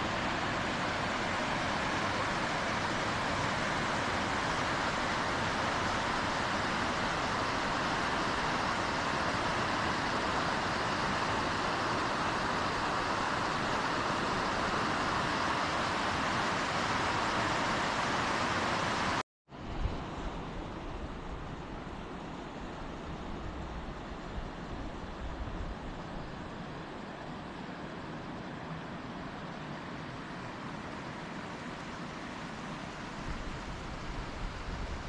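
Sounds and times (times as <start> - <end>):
quieter water noise: 0.0 - 35.0
river water rushing: 0.0 - 35.0.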